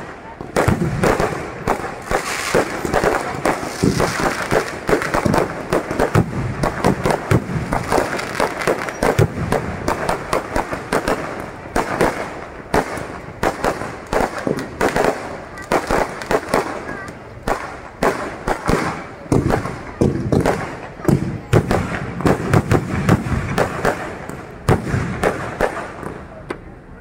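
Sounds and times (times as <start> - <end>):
fireworks bursting: 0.0 - 27.0
fireworks crackling: 0.0 - 27.0.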